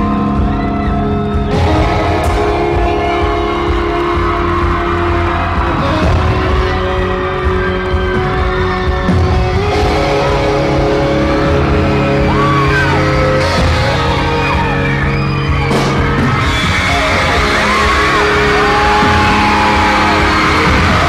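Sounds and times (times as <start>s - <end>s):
fans screaming and whooping: 0.0s - 21.0s
loud concert music: 0.0s - 21.0s.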